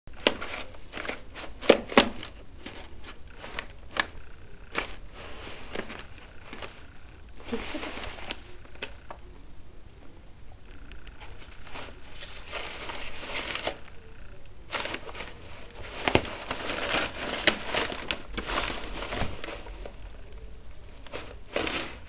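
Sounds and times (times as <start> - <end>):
papers rustling and crinkling: 0.1 - 9.2, 11.1 - 22.0.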